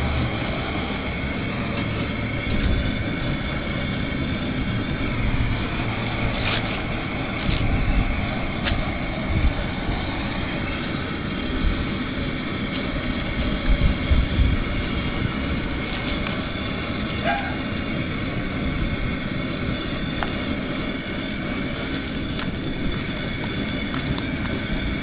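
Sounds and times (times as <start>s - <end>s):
propane burner roaring: 0.0s - 25.0s.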